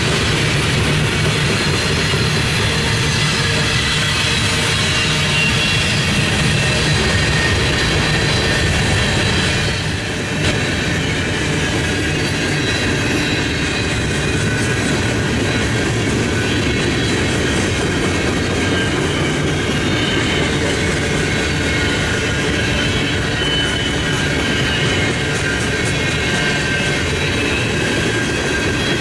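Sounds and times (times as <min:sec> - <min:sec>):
freight train rolling past: 0:00.0 - 0:29.0
wheels squealing: 0:00.0 - 0:29.0.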